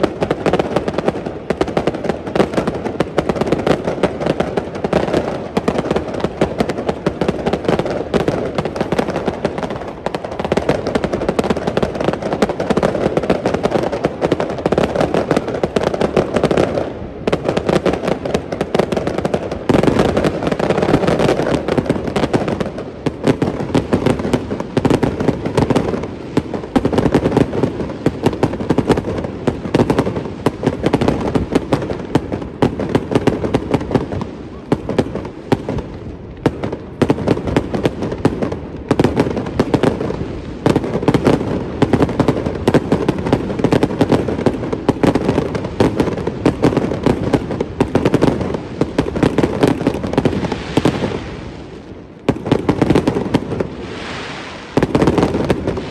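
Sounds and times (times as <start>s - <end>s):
fireworks bangs and crackling: 0.0s - 55.9s
low fireworks booms: 0.0s - 55.9s.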